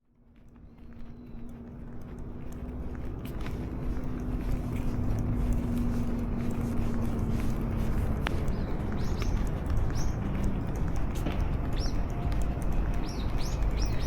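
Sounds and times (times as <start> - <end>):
footstep clicks: 0.0 - 14.0
low street rumble: 0.1 - 14.0
constant hum: 0.2 - 14.0.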